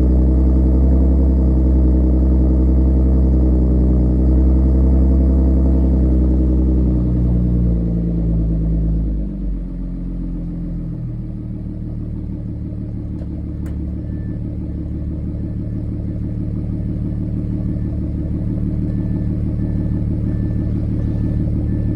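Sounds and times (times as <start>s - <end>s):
car engine idling deeply: 0.0s - 21.9s.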